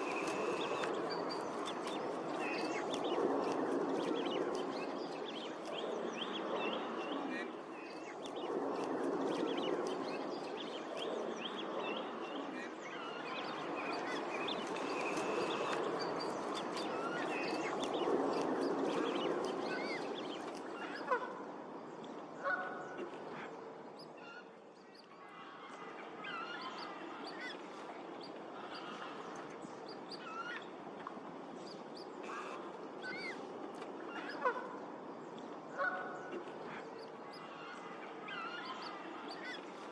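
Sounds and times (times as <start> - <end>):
waterfowl and birds calling: 0.0 - 39.9.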